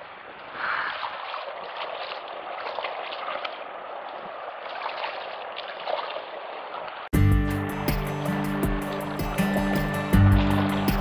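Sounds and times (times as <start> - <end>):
river water rushing: 0.0 - 11.0
small splashes and gurgles: 0.3 - 7.1, 8.8 - 11.0.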